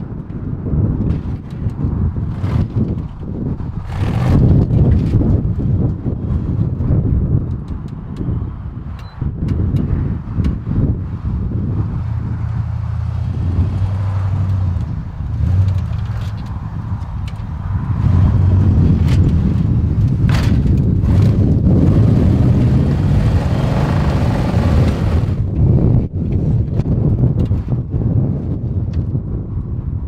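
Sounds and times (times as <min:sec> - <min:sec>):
off-road vehicle engine under load: 0:00.0 - 0:29.1.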